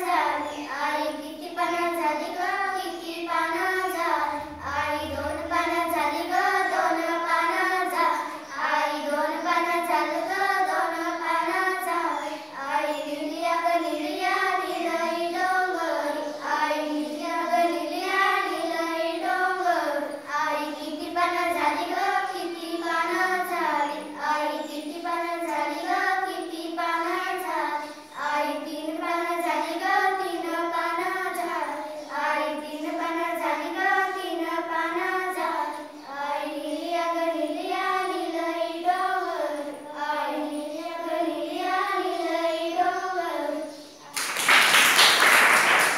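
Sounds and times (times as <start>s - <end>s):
girls singing in unison: 0.0s - 45.9s.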